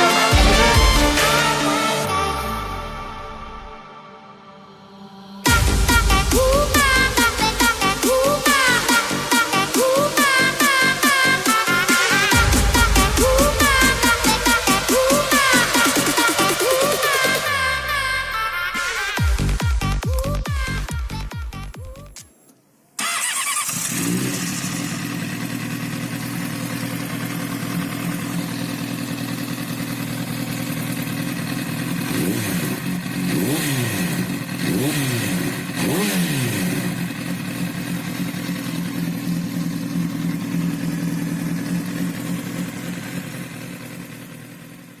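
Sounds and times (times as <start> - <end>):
motorcycle engine idling and revving: 5.4 - 22.2, 23.0 - 45.0.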